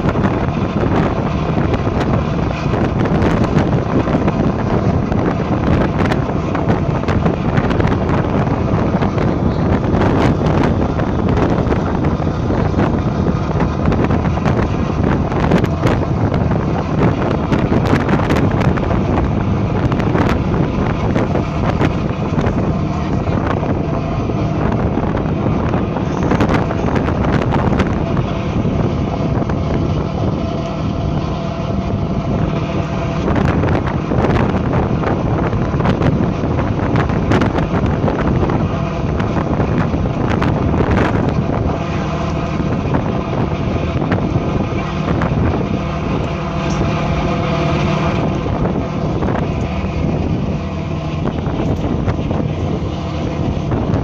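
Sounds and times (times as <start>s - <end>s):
boat engine drone: 0.0s - 54.0s
wind buffeting microphone: 0.0s - 54.0s.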